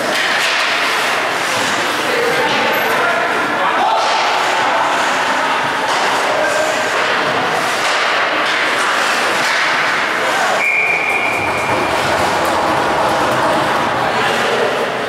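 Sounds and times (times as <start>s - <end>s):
skates rushing on ice: 0.0s - 2.7s, 3.3s - 15.0s
hockey sticks and puck clacking: 0.0s - 15.0s.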